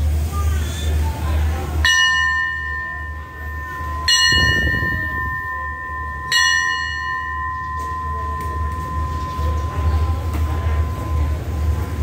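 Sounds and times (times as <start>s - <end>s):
station bell ringing: 1.8s - 12.0s
low rumble: 2.3s - 12.0s.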